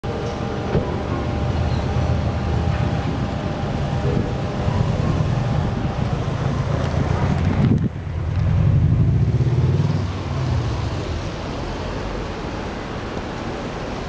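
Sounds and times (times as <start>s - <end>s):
noisy hiss: 0.0s - 14.0s.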